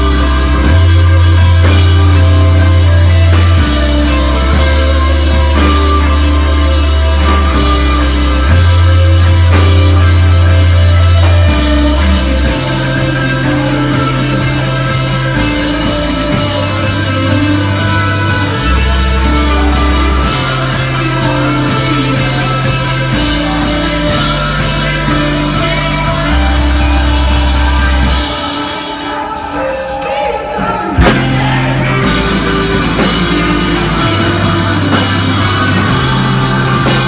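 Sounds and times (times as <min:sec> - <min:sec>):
held bass notes: 0:00.0 - 0:28.8, 0:31.0 - 0:37.0
drum kit: 0:00.0 - 0:37.0
electric guitars: 0:00.0 - 0:37.0
rock band playing live: 0:00.0 - 0:37.0.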